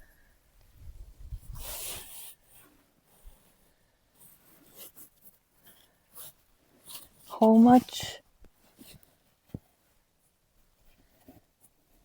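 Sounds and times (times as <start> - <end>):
scratching and rustling of material: 1.3 - 12.0.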